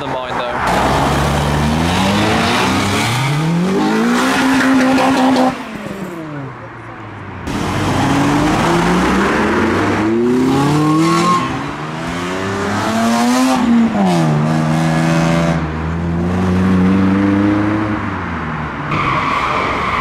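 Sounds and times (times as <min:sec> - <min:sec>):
car engine revving: 0:00.7 - 0:06.4, 0:07.5 - 0:18.0.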